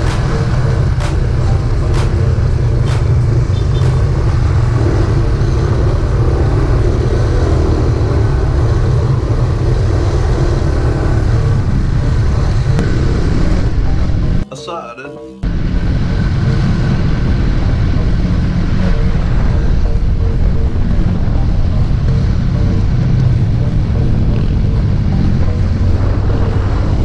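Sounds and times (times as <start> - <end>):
motorcycle engine running: 0.0 - 14.4, 15.4 - 27.0.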